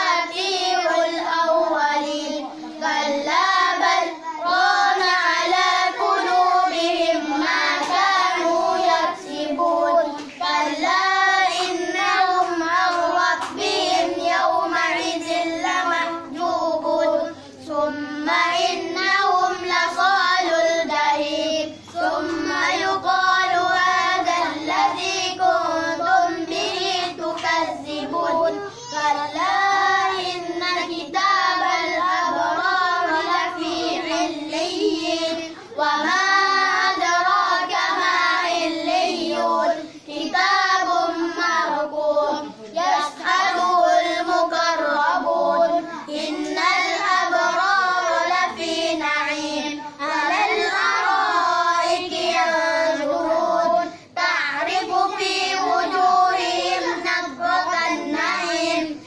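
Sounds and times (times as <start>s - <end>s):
child chanting melodic recitation: 0.0s - 59.0s.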